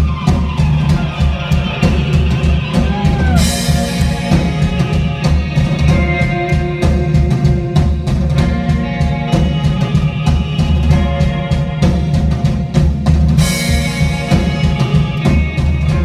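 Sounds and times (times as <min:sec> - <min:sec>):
drum kit beat: 0:00.0 - 0:16.0
electric guitar with pitch bends: 0:00.0 - 0:16.0.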